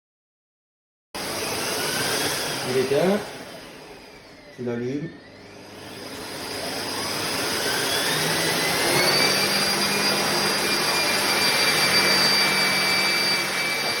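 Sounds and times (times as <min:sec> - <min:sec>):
vacuum cleaner motor whine: 0:01.2 - 0:14.0.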